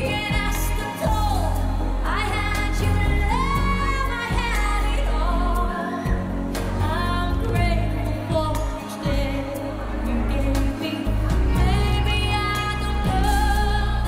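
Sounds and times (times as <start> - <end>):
steady bass line: 0.0 - 14.0.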